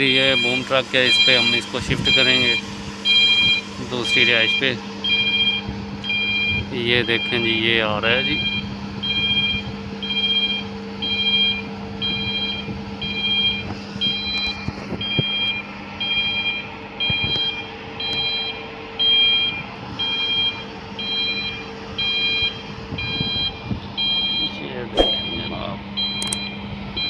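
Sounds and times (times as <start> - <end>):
crane engine drone: 0.0 - 27.0
crane warning beeps: 0.0 - 27.0.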